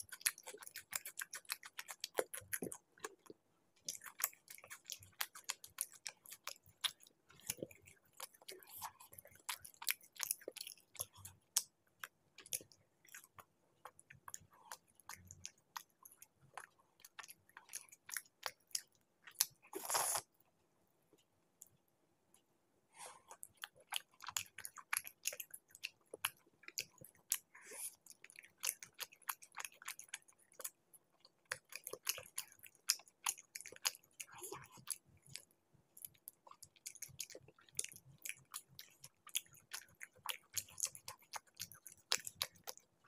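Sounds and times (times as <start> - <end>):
wet chewing and mouth clicks: 0.0 - 20.4, 23.1 - 43.0.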